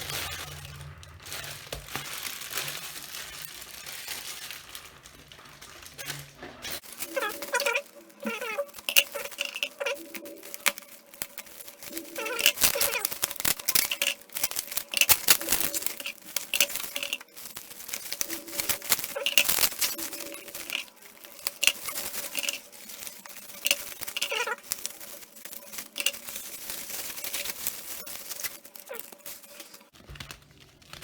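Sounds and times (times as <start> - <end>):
plastic wrapping crinkling and tearing: 0.0 - 31.0.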